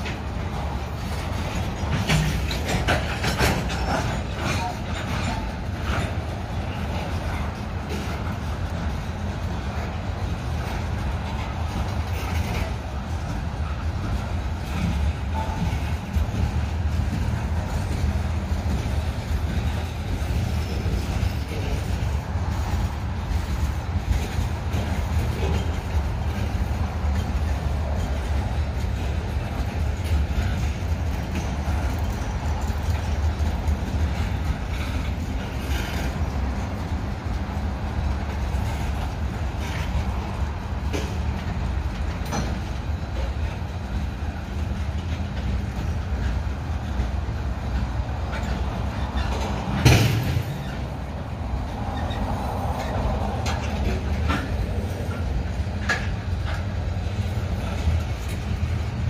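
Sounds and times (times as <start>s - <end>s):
sharp clicks and clacks: 0.0s - 59.0s
train wheels rumbling on rails: 0.0s - 59.0s.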